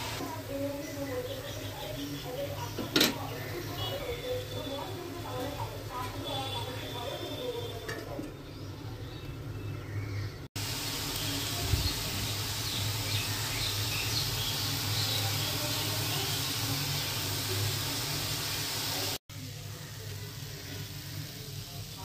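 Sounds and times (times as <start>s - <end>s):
greens sizzling in a pan: 0.0s - 8.1s, 10.6s - 22.0s.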